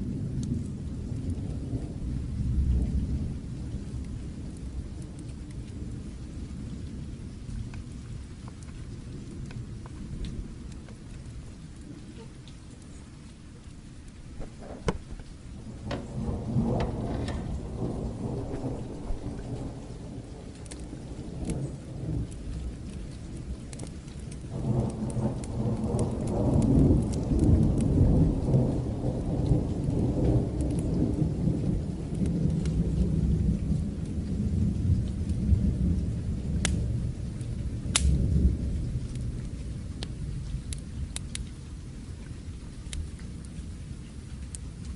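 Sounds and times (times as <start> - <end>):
rolling thunder: 0.0 - 12.4, 14.2 - 42.2
steady rain: 0.0 - 44.9.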